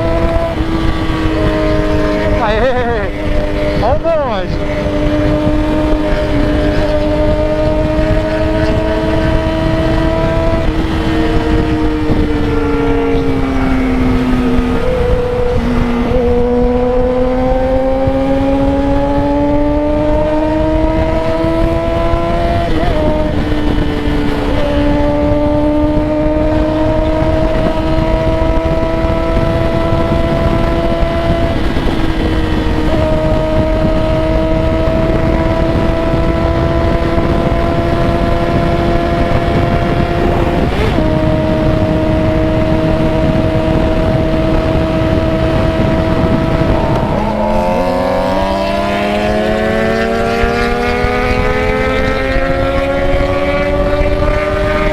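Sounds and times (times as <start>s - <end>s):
motorcycle engine changing gears: 0.0s - 54.9s
wind rush on microphone: 0.0s - 54.9s.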